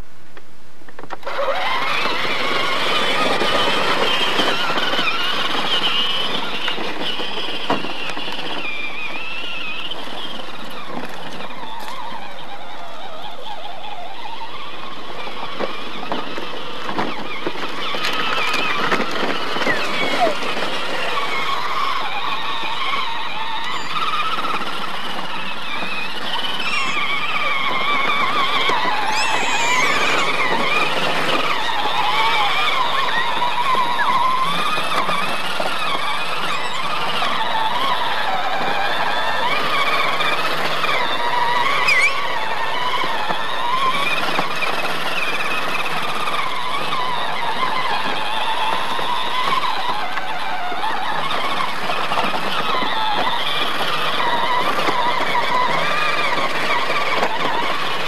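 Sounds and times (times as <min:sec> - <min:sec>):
toy truck motor whining: 0:01.0 - 0:58.0.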